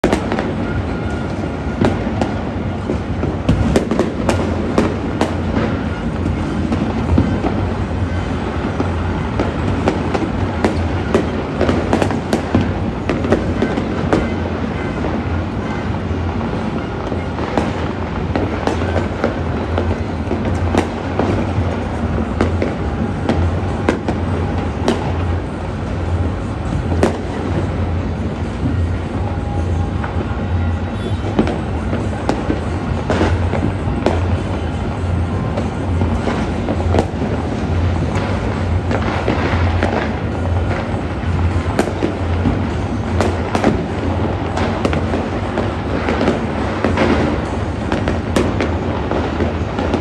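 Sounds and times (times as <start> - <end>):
distant fireworks rumble: 0.0 - 50.0
firecracker cracks: 0.0 - 50.0.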